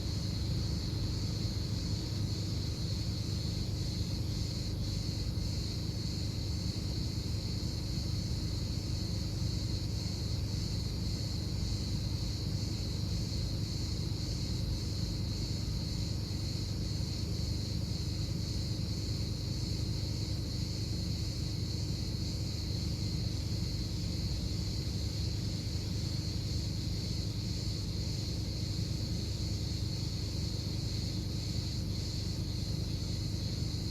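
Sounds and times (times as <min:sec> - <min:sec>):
outdoor background rumble: 0:00.0 - 0:33.9.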